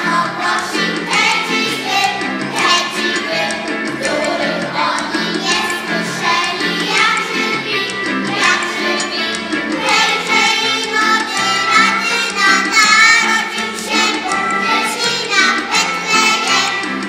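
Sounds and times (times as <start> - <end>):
children's choir singing: 0.0 - 17.0
musical accompaniment: 0.0 - 17.0.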